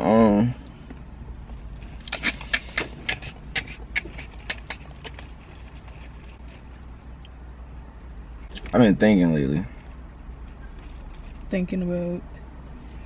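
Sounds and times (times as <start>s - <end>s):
low car cabin hum: 0.0s - 13.0s.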